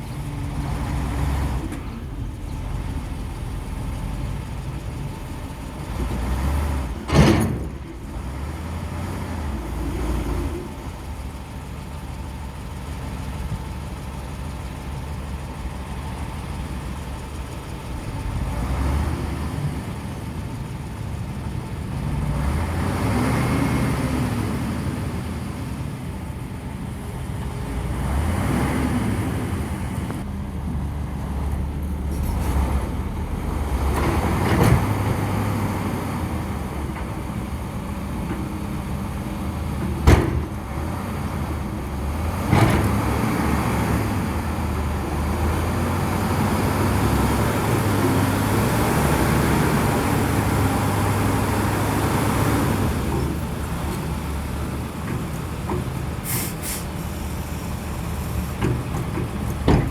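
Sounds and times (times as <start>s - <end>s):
heavy diesel engines labouring: 0.0s - 59.9s.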